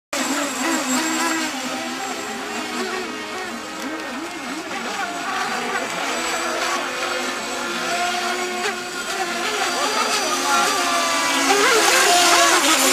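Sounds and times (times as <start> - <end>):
model boat motors whining: 0.2 - 12.9.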